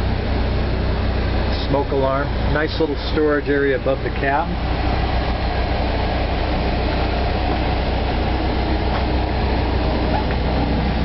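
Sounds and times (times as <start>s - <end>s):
generator running: 0.0s - 11.0s.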